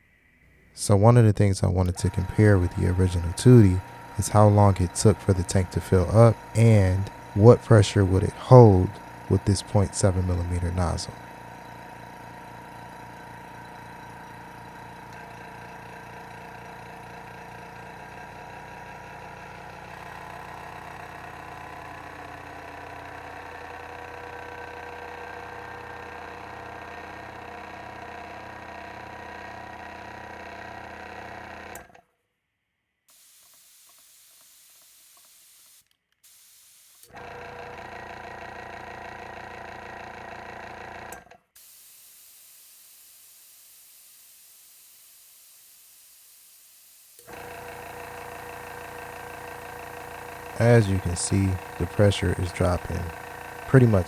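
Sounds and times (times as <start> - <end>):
air compressor humming: 0.8 - 31.1, 33.1 - 54.0.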